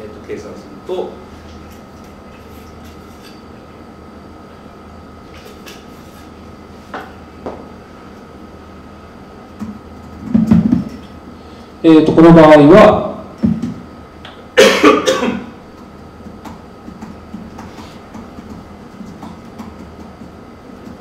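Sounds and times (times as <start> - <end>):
electrical hum with high tone: 0.0 - 21.0.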